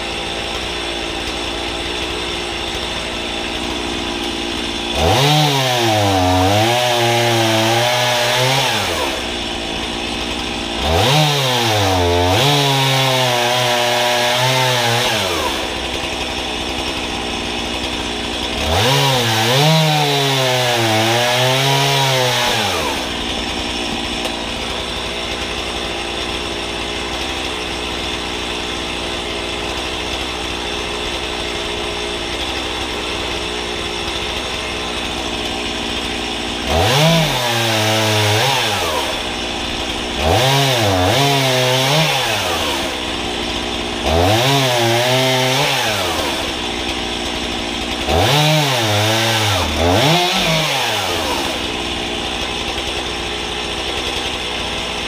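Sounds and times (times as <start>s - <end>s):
chainsaw cutting through logs: 0.0s - 55.0s
chainsaw idling: 0.0s - 55.0s.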